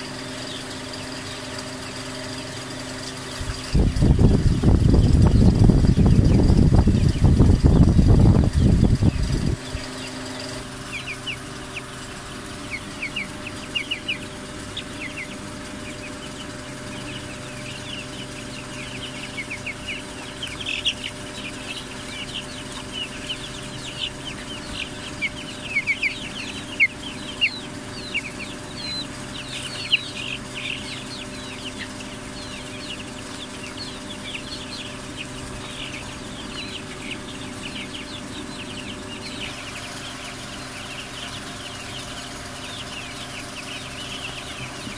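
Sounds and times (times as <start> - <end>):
chicks peeping: 0.0 - 44.9
steady low hum: 0.0 - 44.9.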